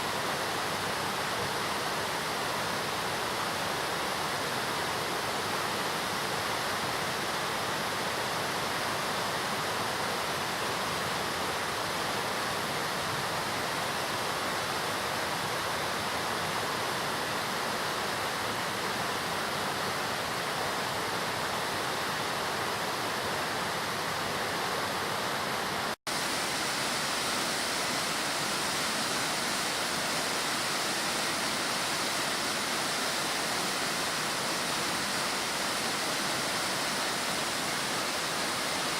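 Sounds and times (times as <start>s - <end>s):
waterfall crashing: 0.0s - 38.9s.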